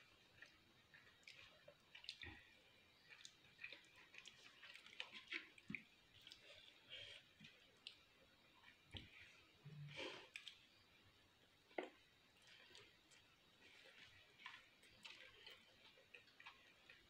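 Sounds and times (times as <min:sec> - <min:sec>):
close-up chewing with wet clicks: 0:00.0 - 0:09.6, 0:10.3 - 0:17.0.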